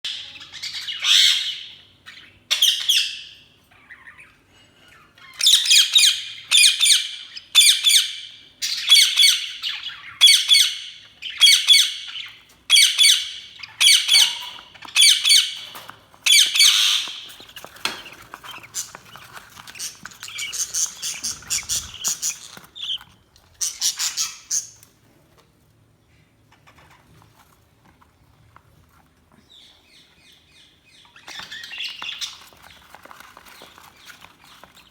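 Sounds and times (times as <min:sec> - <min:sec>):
budgies chirping and squawking: 0:00.1 - 0:25.0, 0:26.4 - 0:27.4, 0:29.5 - 0:34.9.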